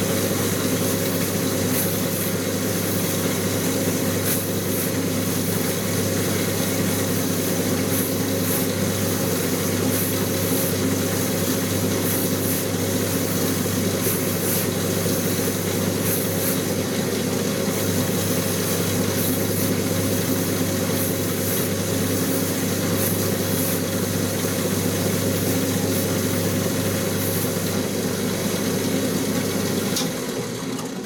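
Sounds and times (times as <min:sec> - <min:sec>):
machine motor running: 0:00.0 - 0:31.0.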